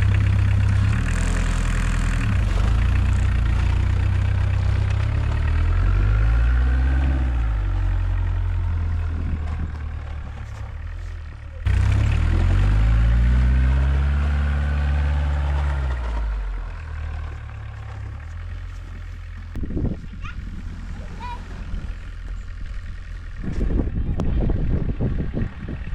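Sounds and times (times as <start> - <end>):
diesel engine revving under load: 0.0 - 25.9.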